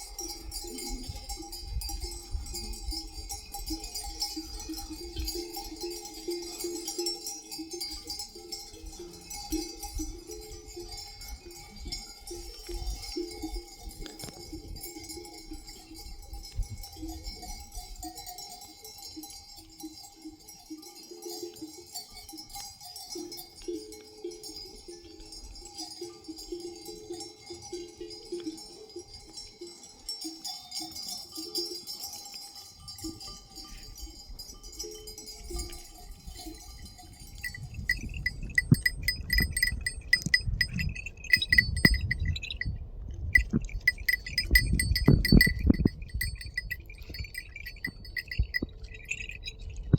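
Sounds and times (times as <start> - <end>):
sheep bells clanking: 0.0 - 49.9.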